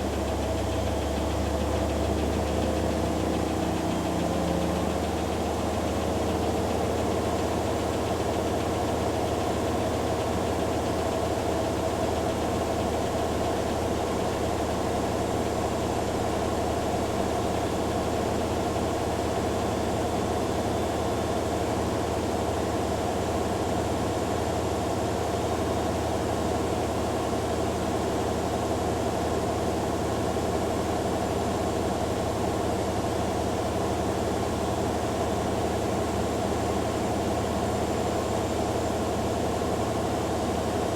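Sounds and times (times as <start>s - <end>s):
washing machines spinning: 0.0s - 40.9s.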